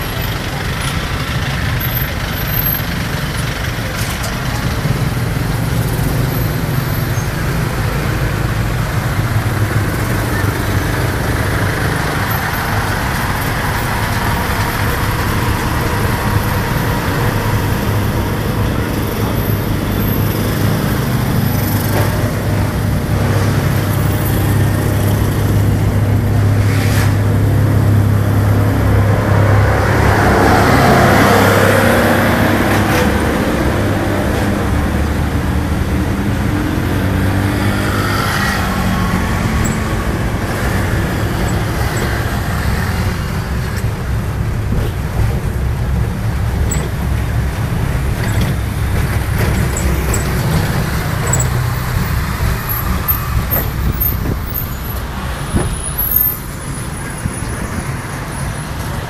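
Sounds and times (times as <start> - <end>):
road and traffic noise: 0.0 - 59.0
trucks passing: 0.0 - 59.0.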